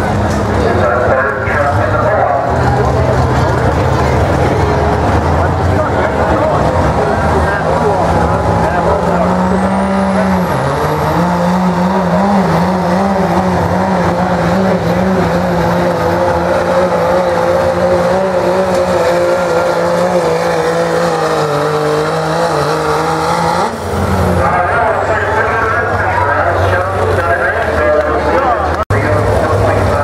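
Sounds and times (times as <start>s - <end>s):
diesel engine under full load: 0.0s - 30.0s.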